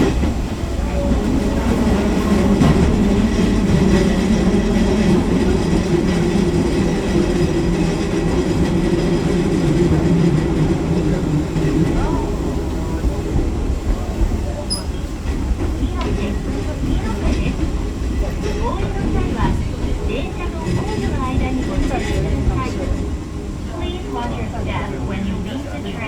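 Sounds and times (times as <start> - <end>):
train rumbling along track: 0.0 - 26.0.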